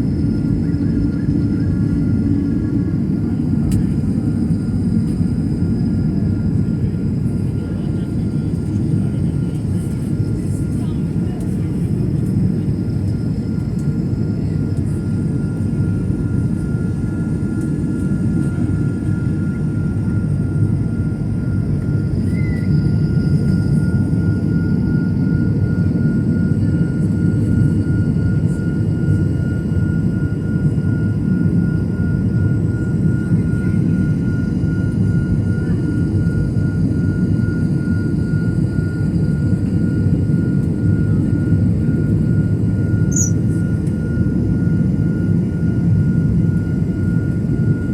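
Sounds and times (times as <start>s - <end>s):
airliner engines rumbling: 0.0s - 47.9s.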